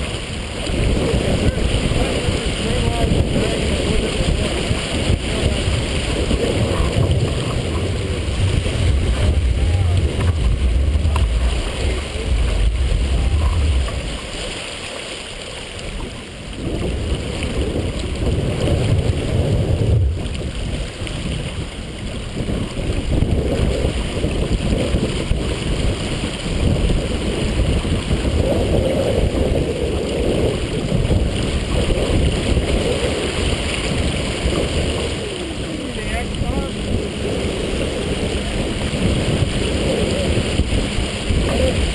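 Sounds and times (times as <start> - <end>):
water splashing along hull: 0.0 - 41.9
wind buffeting microphone: 0.0 - 41.9.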